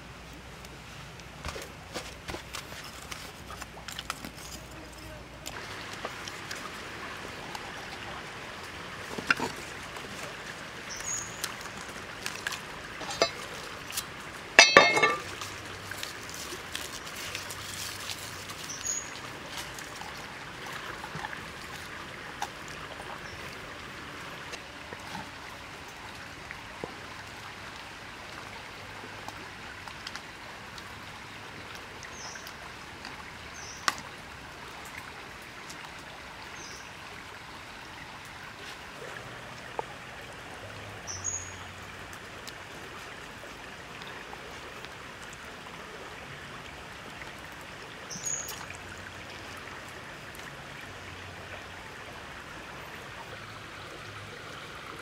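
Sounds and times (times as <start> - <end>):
running water trickle: 0.0 - 55.0.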